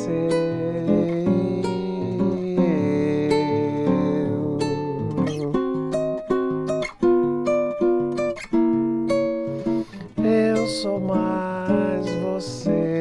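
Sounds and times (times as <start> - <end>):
acoustic guitar samba chords: 0.0 - 13.0.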